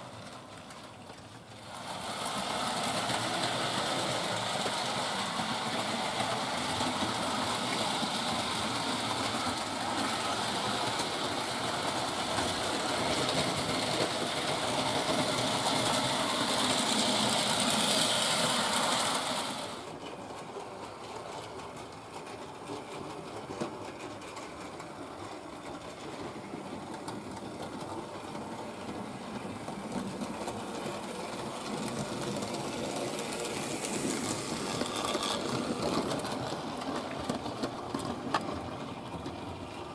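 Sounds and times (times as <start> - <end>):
wheels clattering over rails: 0.0 - 39.9.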